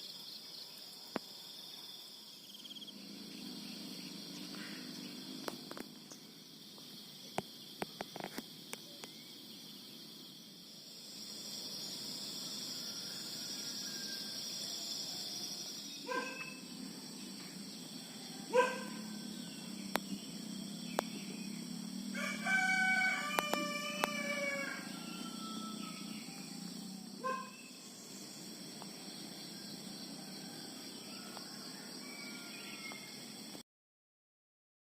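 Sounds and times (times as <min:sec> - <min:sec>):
high insect chorus: 0:00.0 - 0:33.6.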